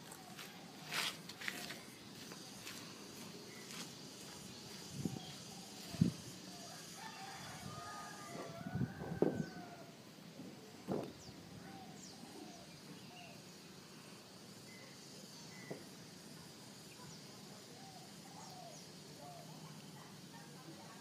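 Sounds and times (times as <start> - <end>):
faint high insect-like tone: 0.0 - 21.0.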